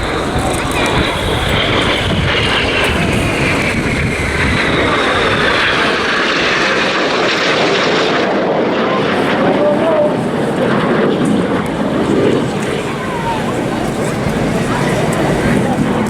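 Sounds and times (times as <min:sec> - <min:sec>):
jets passing low: 0:00.0 - 0:16.0.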